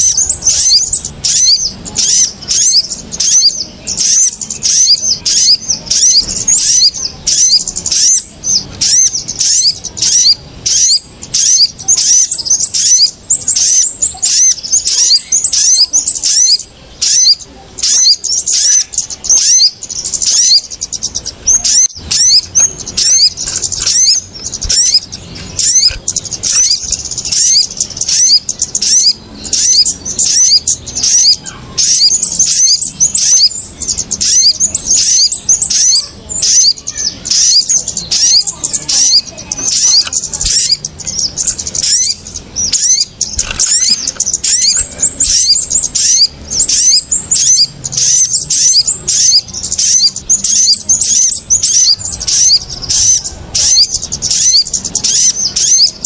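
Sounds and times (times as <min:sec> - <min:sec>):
small birds chirping rapidly: 0:00.0 - 0:56.0.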